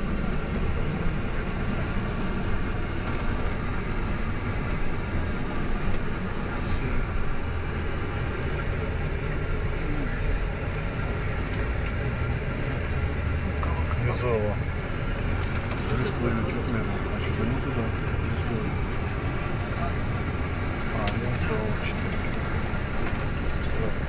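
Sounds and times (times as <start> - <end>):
bus engine and road noise: 0.0 - 24.0.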